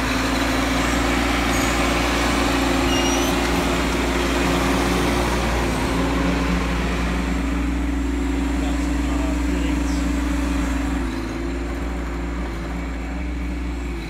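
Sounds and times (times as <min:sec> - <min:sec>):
mini excavator diesel engine running: 0:00.0 - 0:14.0.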